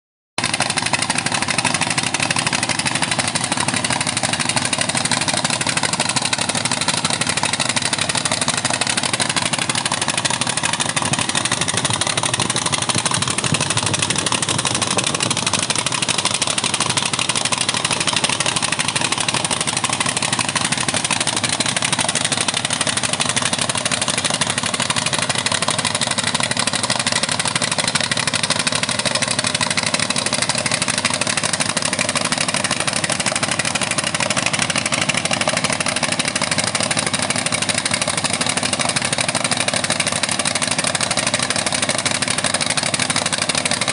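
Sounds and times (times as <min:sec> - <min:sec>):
engine running steadily: 0:00.4 - 0:43.9.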